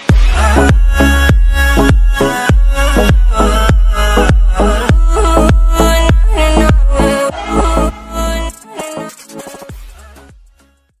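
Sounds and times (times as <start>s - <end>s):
electronic music with drums: 0.0s - 11.0s.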